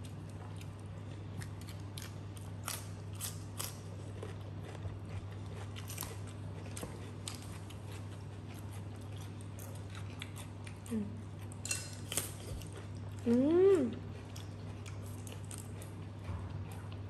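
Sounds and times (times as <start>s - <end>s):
chewing and crunching: 0.0s - 17.0s
steady low hum: 0.0s - 17.0s.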